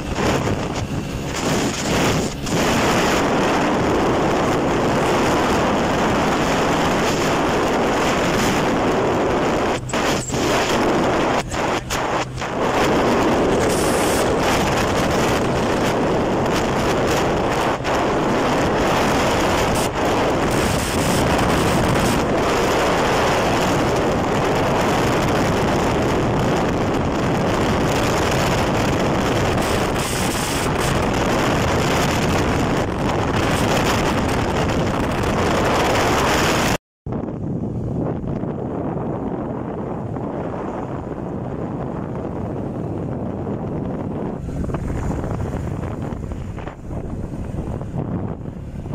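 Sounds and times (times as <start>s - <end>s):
motorcycle engine drone: 0.0s - 48.9s
wind rush over microphone: 0.0s - 48.9s.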